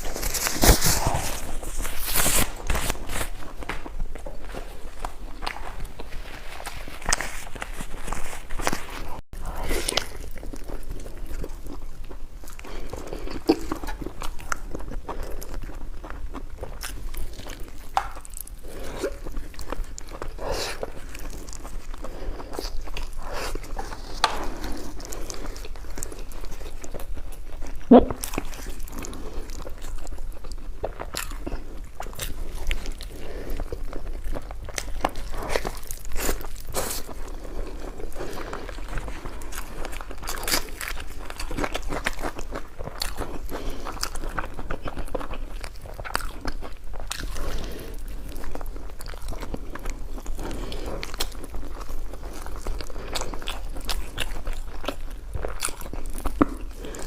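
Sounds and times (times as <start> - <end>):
person crunching and chewing food: 0.0 - 57.0.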